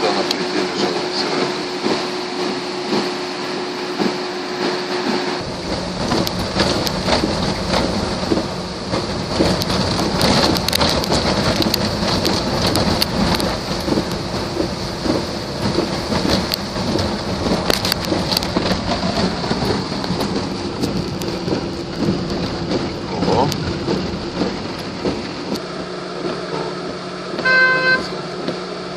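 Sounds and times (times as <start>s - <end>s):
water rushing down street: 0.0s - 28.9s.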